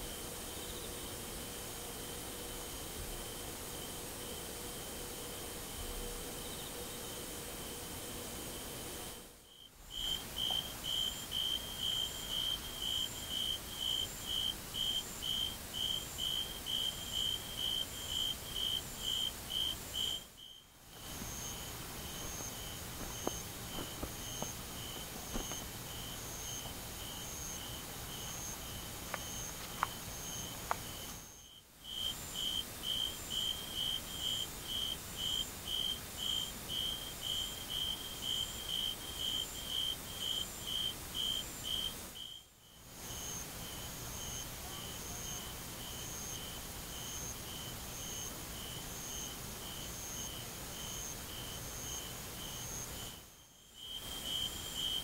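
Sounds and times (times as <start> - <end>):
insect chirping: 1.8 - 55.0.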